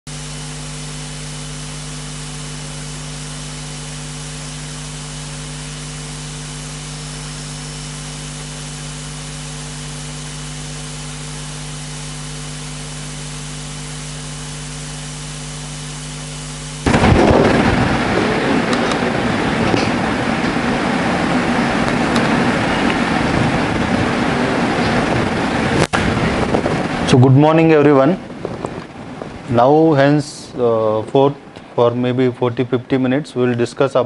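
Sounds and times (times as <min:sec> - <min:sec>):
electrical hum and hiss: 0:00.1 - 0:34.0.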